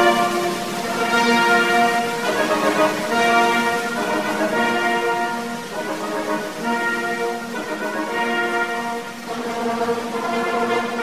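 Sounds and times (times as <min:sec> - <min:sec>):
orchestral music with brass chords: 0:00.0 - 0:11.0.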